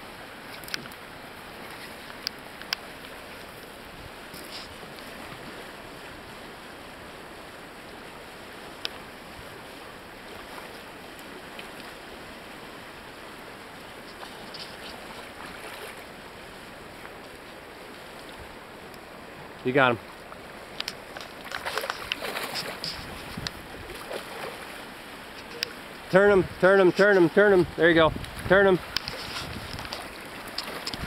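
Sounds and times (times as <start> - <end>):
river rippling over stones: 0.0 - 31.0.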